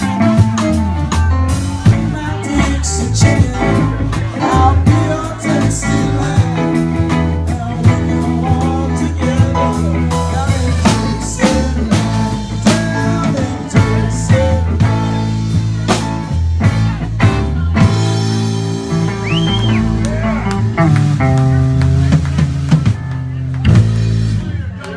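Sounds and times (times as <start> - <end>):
drum kit beat: 0.0 - 24.9
live blues-rock band playing: 0.0 - 24.9.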